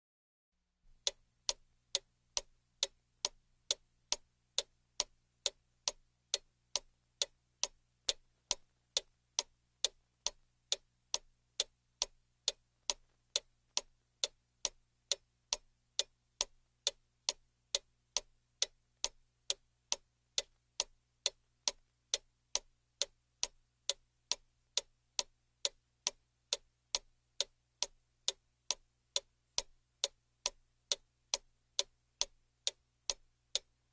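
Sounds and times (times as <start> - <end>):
clock ticking: 0.9 - 33.9.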